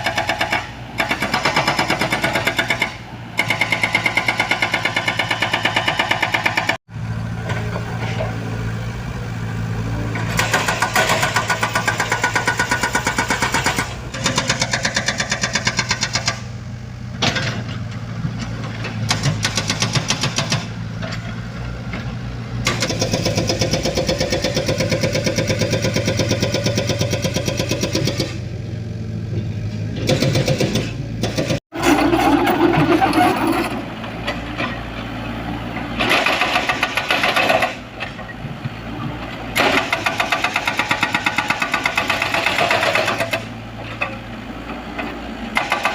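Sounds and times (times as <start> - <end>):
diesel engine of construction machinery: 0.0 - 45.9.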